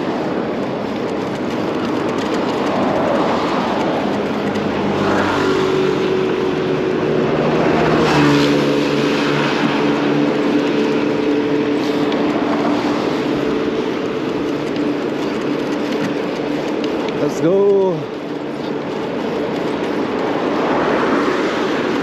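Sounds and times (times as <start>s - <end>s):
street traffic: 0.0s - 22.0s
vehicle engine humming: 0.0s - 22.0s.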